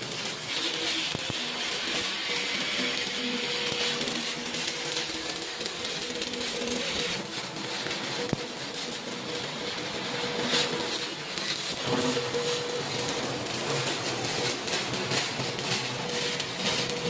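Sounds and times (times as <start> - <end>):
welding arc crackling and hissing: 0.0 - 17.0.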